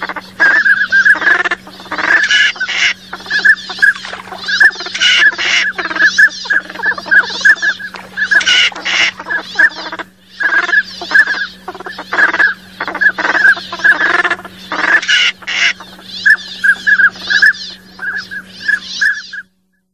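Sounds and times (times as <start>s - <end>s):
ducks quacking: 0.0s - 19.5s
faint low hum: 0.0s - 19.9s
duck whistles: 0.3s - 14.1s, 14.7s - 19.5s.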